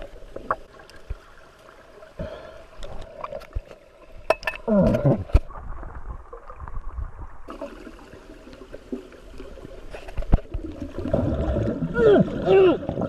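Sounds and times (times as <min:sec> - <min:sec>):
underwater watery rumble: 0:00.0 - 0:13.0.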